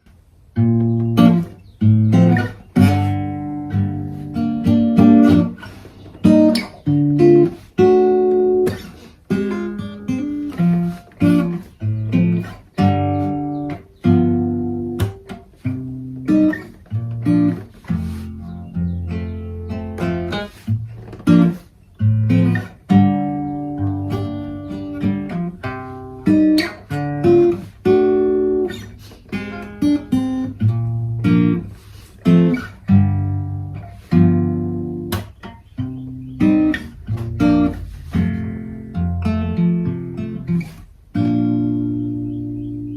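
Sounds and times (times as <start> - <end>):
acoustic guitar chords: 0.0 - 42.9.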